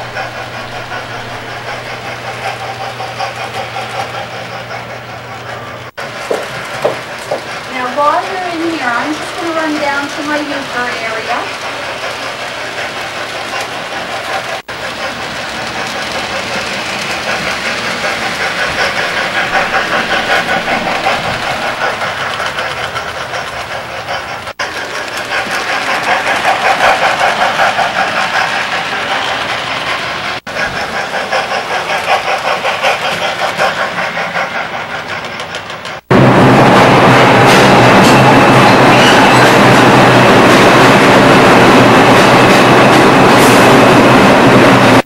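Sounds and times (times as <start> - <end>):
model train wheels clattering on rail: 0.0 - 36.1.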